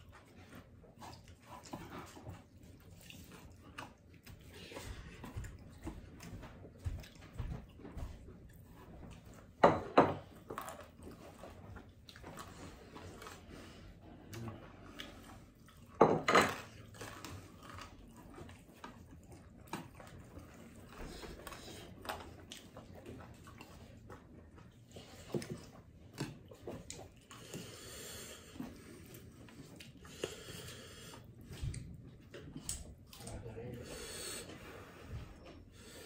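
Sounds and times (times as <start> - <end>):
quiet chewing: 0.0 - 9.6, 10.2 - 36.0.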